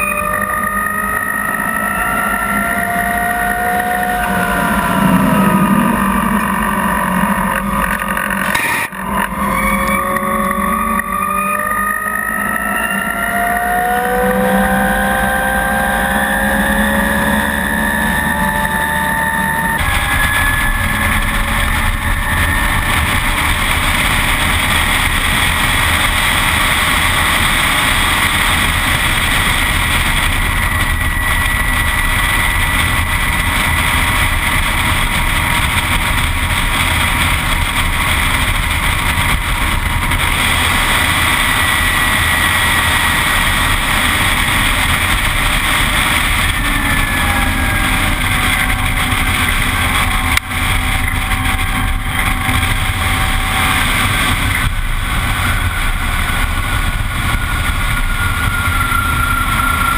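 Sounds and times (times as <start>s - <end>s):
electric motor whine: 0.0s - 59.9s
heavy wind rush: 0.7s - 10.9s, 13.3s - 59.9s.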